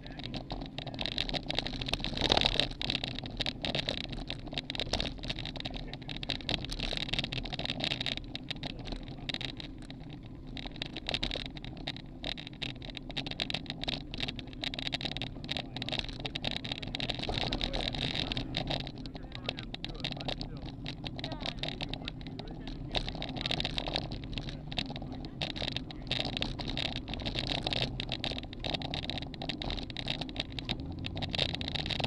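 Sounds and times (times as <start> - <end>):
bicycle tyre and road noise: 0.0 - 32.0
small rattling clicks: 0.0 - 32.0.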